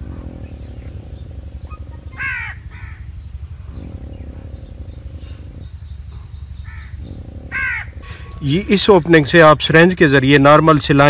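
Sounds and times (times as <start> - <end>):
harsh bird cawing: 0.0 - 9.7
low rumble: 0.0 - 11.0.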